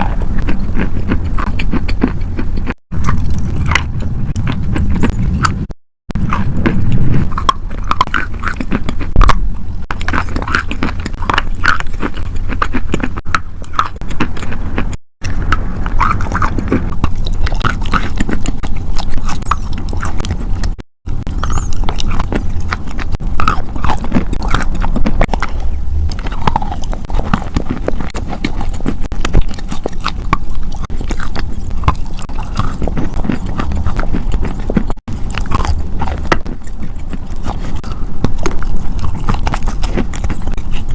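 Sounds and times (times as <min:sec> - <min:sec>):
low rumble: 0:00.0 - 0:12.4, 0:13.1 - 0:40.9
crunching crackles and snaps: 0:00.0 - 0:40.9.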